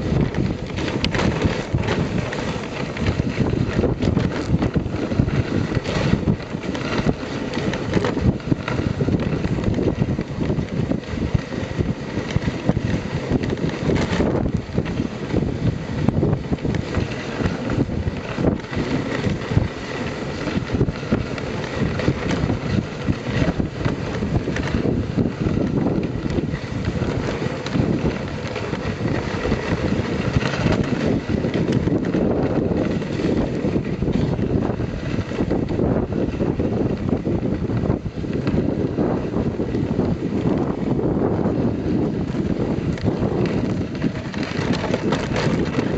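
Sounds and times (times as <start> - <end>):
sled runners scraping on snow: 0.0 - 45.9
wind buffeting microphone: 0.0 - 45.9.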